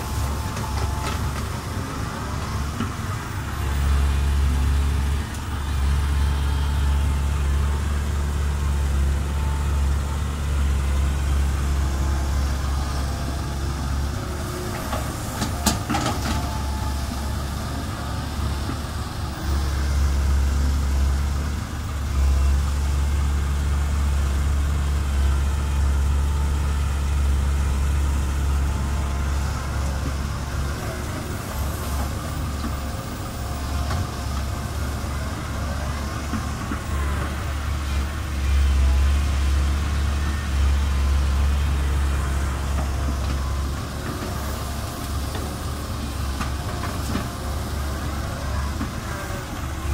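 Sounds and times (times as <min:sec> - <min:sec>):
excavator diesel engine droning: 0:00.0 - 0:49.9.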